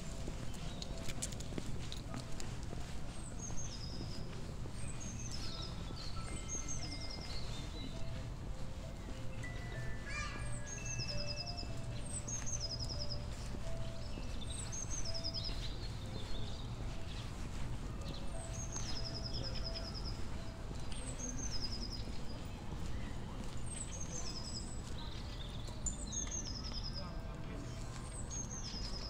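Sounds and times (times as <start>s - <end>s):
songbird singing: 0.0s - 2.0s, 2.8s - 29.0s.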